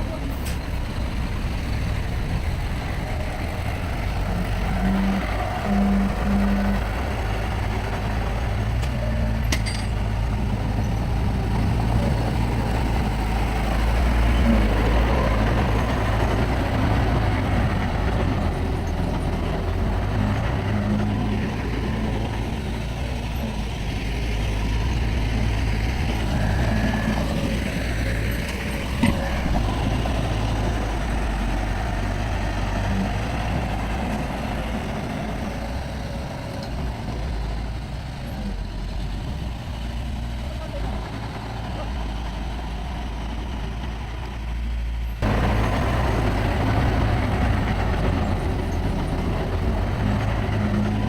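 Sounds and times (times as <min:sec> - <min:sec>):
heavy diesel engine rumbling: 0:00.0 - 0:51.0.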